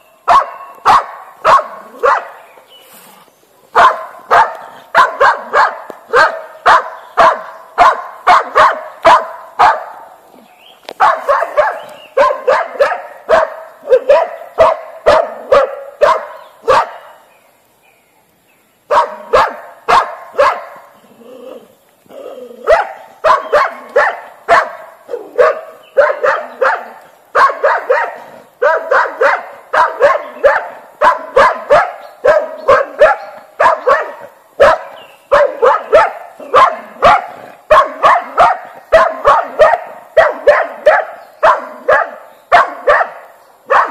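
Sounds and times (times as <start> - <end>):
dog barking rapidly: 0.3 - 2.4, 3.7 - 10.1, 11.0 - 17.2, 18.9 - 20.9, 22.6 - 43.9.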